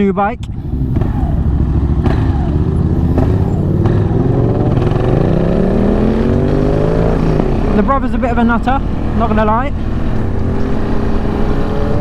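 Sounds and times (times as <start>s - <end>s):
motorcycle engine accelerating: 0.4s - 12.0s.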